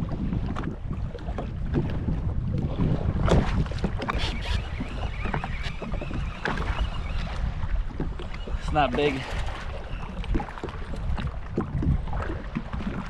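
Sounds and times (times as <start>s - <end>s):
water slopping against hull: 0.0s - 13.0s
wind buffeting microphone: 0.0s - 13.0s.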